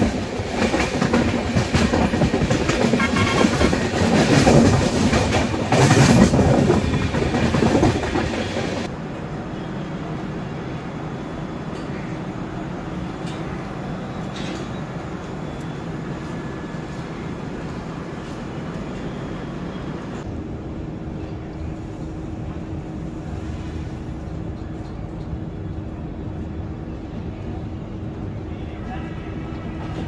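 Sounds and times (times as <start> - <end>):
train wheels rumbling on rails: 0.0 - 9.3, 11.2 - 30.0.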